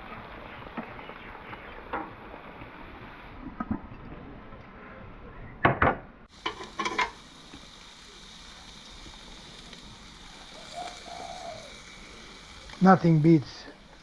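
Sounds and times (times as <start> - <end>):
fish sizzling on a grill: 0.0 - 3.6, 6.3 - 14.0.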